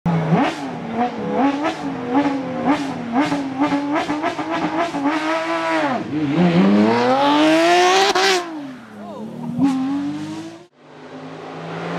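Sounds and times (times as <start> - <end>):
rally car engine revving: 0.1 - 11.9.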